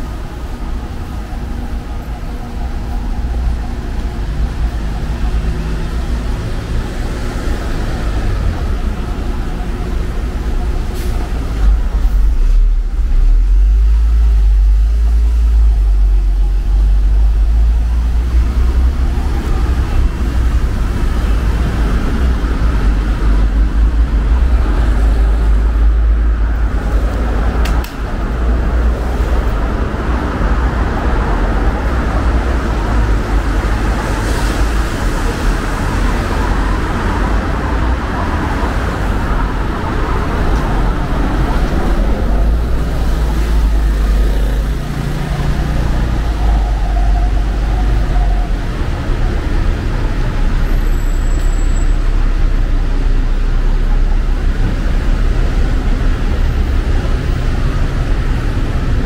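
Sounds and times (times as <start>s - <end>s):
cars passing: 0.0s - 59.0s
large vehicle engines rumbling: 0.0s - 59.0s
tyres hissing on wet road: 4.5s - 59.0s.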